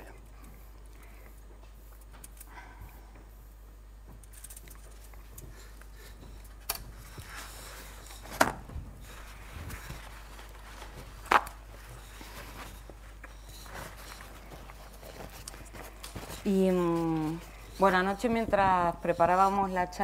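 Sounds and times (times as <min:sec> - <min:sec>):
faint room noise: 0:00.0 - 0:20.0
steady low hum: 0:00.0 - 0:20.0.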